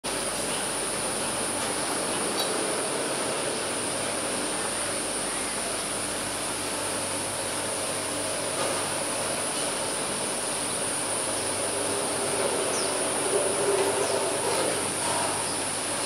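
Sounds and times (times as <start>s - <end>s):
gondola machinery drone: 0.0s - 16.0s
constant high hiss: 0.1s - 16.0s.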